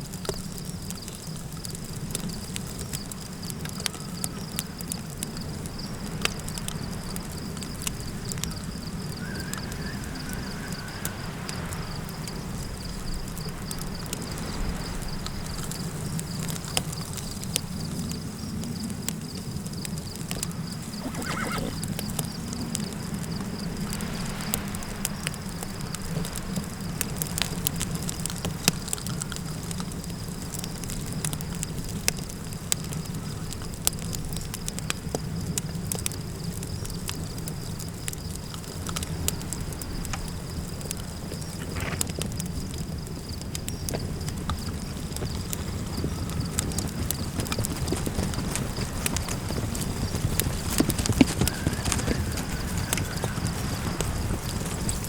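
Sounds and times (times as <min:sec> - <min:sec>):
campfire crackling and popping: 0:00.0 - 0:55.0
low wind rumble: 0:00.0 - 0:55.0.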